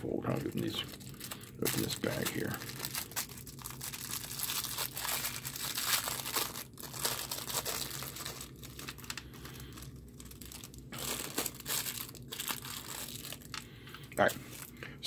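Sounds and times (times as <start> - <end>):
plastic bag crinkling: 0.2 - 15.0.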